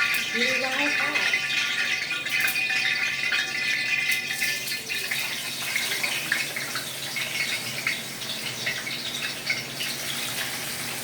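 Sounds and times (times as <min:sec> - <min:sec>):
oil sizzling and crackling in a pan: 0:00.0 - 0:11.0.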